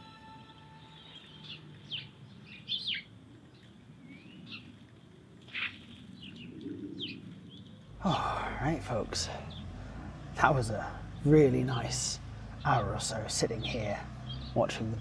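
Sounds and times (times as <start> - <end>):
birds chirping: 0.3 - 15.0.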